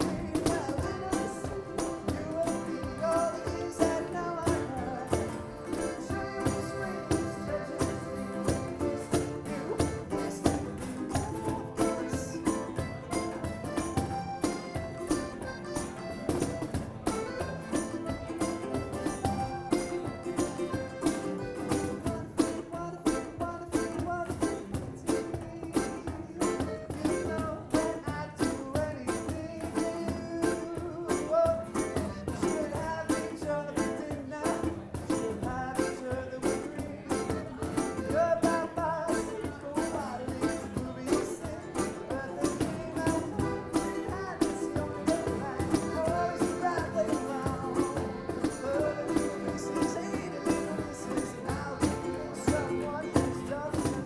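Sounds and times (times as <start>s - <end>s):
piano accordion: 0.0s - 24.0s, 24.6s - 54.0s
cajon beat: 0.0s - 54.0s
strummed acoustic guitars: 0.0s - 54.0s.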